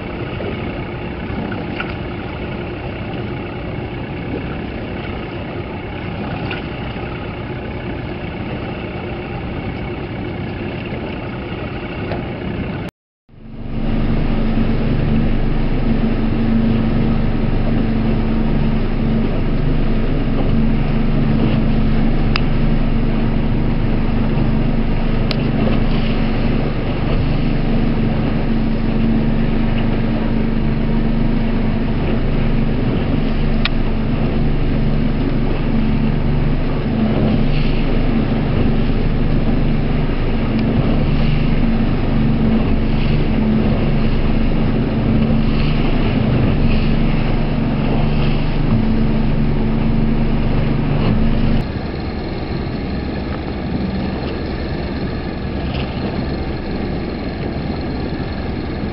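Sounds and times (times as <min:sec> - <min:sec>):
motorboat engine running: 0:00.0 - 0:58.9.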